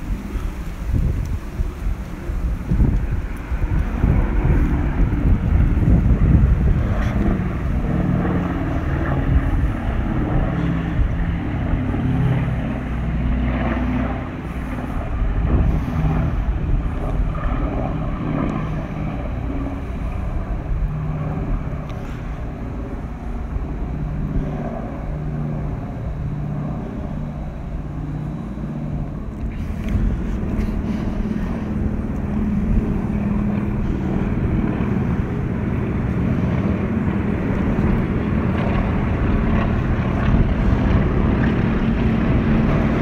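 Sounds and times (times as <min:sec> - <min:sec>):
propeller aircraft droning overhead: 0:00.0 - 0:43.0.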